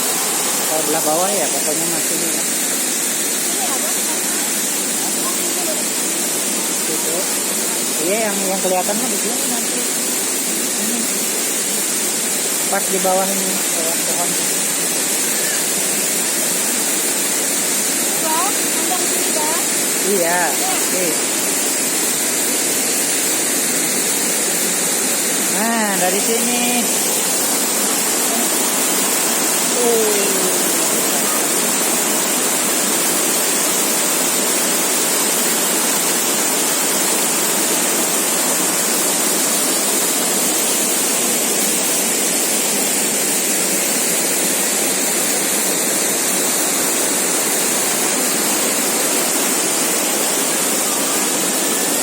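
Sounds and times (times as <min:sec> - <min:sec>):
waterfall and river rushing: 0:00.0 - 0:52.0.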